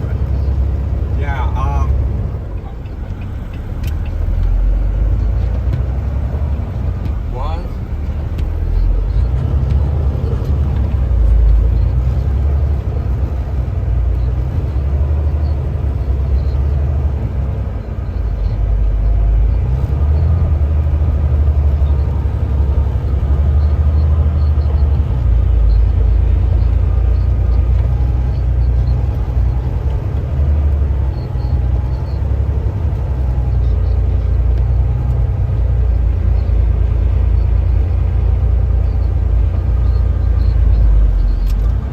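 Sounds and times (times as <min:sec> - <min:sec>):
road noise: 0:00.0 - 0:41.9
truck engine rumble: 0:00.0 - 0:41.9.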